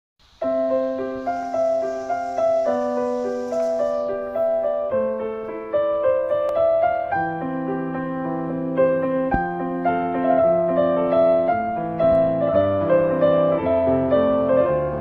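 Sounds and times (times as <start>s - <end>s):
slow gentle piano music: 0.3s - 15.0s.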